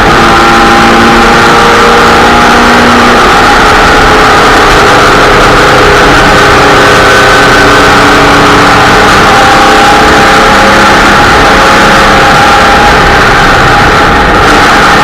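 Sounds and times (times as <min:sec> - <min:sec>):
race vehicle engine running: 0:00.0 - 0:15.0
rushing noise: 0:00.0 - 0:15.0.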